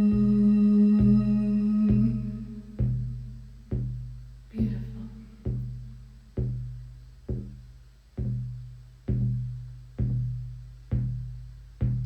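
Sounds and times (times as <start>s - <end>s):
deep drum beaten slowly: 0.0s - 12.0s.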